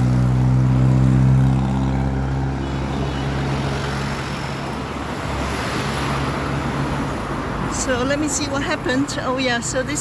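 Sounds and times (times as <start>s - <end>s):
road and traffic rumble: 0.0s - 10.0s.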